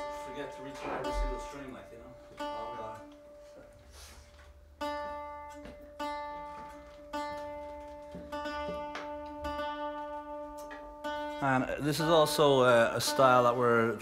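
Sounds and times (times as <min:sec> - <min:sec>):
guitar strings plucked: 0:00.0 - 0:14.0.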